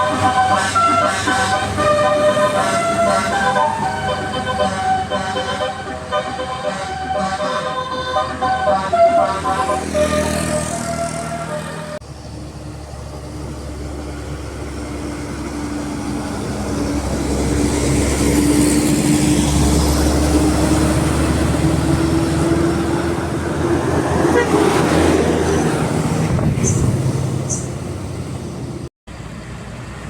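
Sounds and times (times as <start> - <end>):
bus engine labouring uphill: 0.0 - 30.0
rush of bus passing: 0.0 - 30.0.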